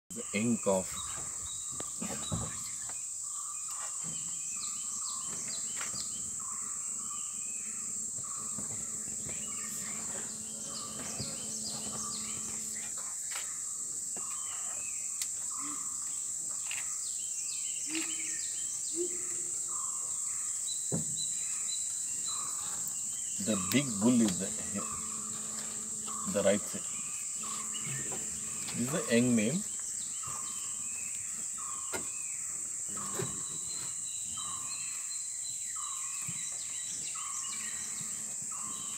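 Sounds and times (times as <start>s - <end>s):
high-pitched insect drone: 0.2s - 38.9s.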